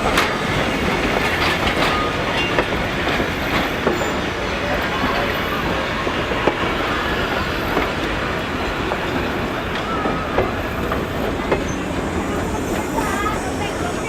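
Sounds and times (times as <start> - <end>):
train rumbling over rails: 0.0 - 14.0.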